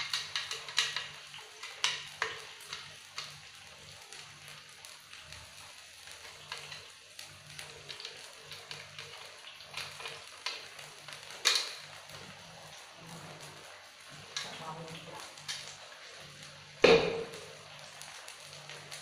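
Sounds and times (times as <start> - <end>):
oil crackling and popping: 0.0 - 19.0
spice paste sizzling in hot oil: 0.0 - 19.0.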